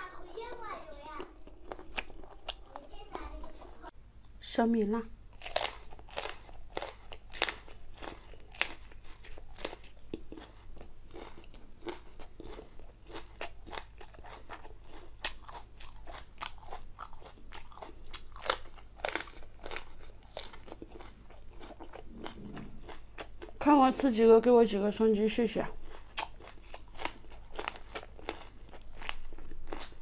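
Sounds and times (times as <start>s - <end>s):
crunching and chewing peppers: 0.0s - 3.9s, 5.3s - 24.1s, 25.7s - 30.0s.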